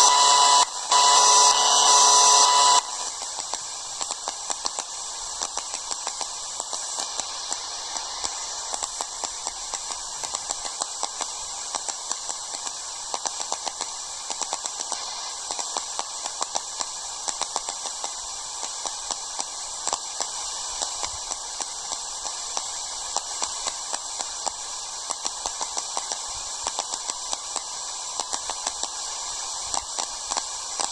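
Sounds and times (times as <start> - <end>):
radio static hiss: 0.0 - 30.9
crackling clicks: 2.8 - 30.9.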